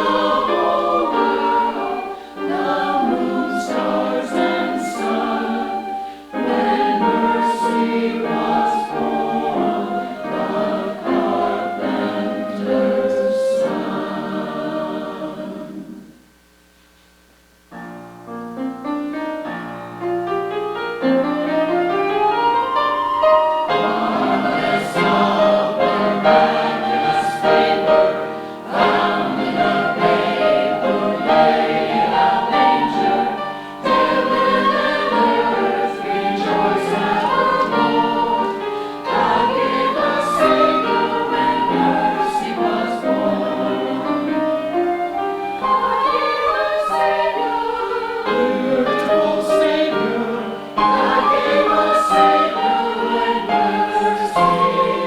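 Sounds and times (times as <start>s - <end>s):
choir singing: 0.0s - 16.2s, 20.8s - 55.0s.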